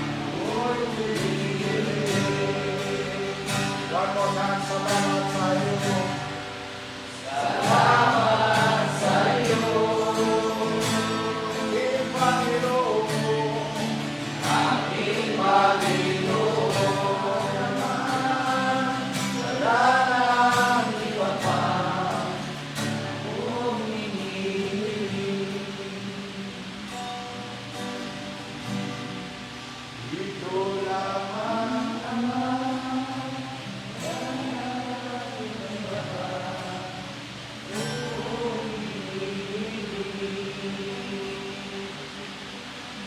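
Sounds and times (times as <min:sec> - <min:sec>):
voices singing gospel: 0:00.0 - 0:27.4, 0:29.9 - 0:43.0.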